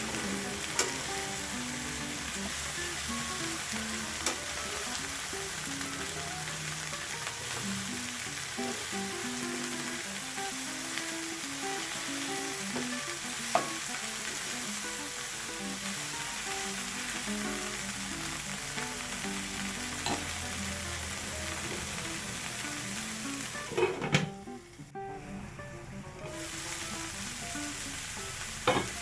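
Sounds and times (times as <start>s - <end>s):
food sizzling in hot oil: 0.0s - 24.9s, 25.5s - 29.0s
soft background music: 0.0s - 29.0s.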